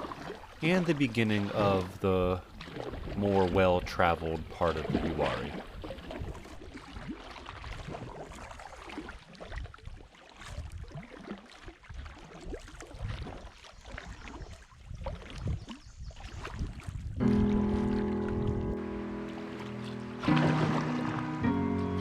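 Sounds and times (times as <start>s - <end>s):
paddle splashing in water: 0.0s - 22.0s.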